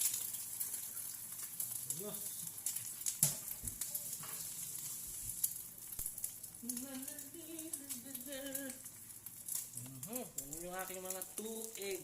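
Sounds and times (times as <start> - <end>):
eggs sizzling in hot oil: 0.0 - 12.0
oil crackling and popping: 0.0 - 12.0.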